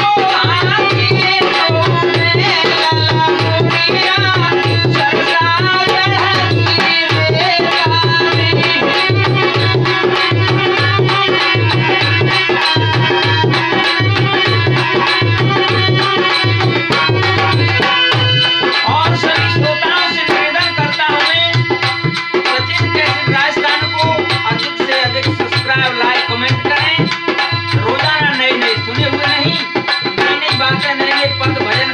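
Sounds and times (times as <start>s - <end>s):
dholak drum rhythm: 0.0s - 31.9s
harmonium melody: 0.0s - 31.9s.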